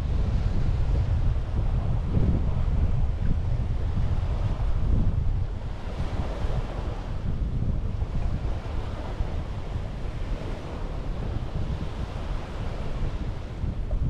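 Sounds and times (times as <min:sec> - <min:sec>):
sea waves washing onto beach: 0:00.0 - 0:14.0
wind rumbling on microphone: 0:00.0 - 0:14.0.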